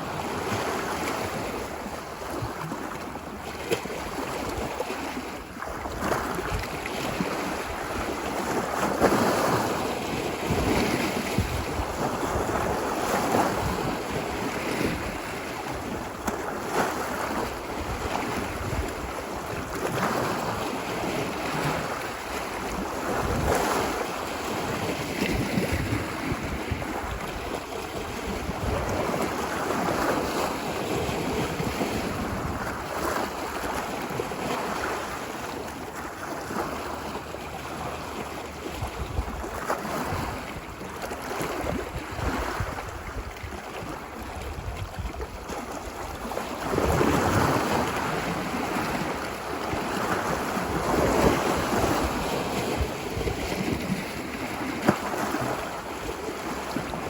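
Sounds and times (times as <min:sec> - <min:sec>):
ocean surf washing ashore: 0:00.0 - 0:57.0
wind rumble on microphone: 0:00.0 - 0:57.0.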